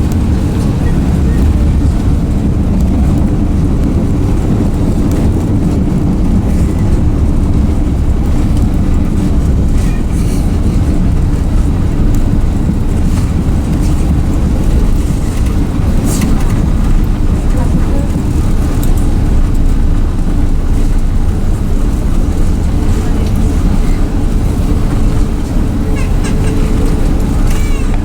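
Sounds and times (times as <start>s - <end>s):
aircraft cabin rumble: 0.0s - 28.0s.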